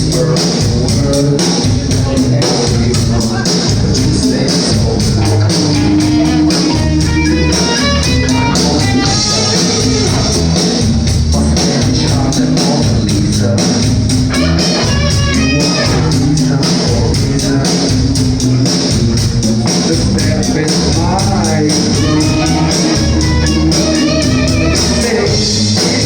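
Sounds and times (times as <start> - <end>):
rock band music: 0.0 - 26.0.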